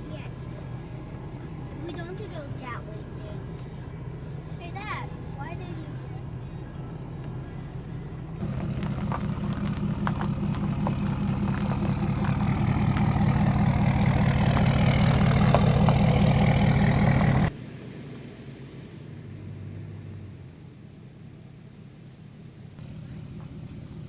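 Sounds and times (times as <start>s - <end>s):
low rumble: 0.0s - 24.0s
vehicle engine droning: 0.0s - 24.0s.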